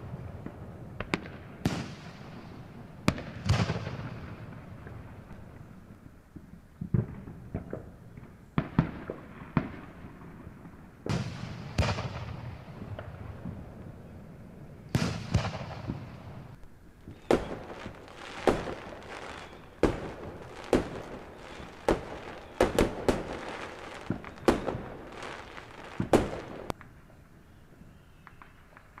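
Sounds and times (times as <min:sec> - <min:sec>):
fireworks bangs echoing: 0:00.0 - 0:05.4, 0:06.8 - 0:13.9, 0:14.9 - 0:26.8.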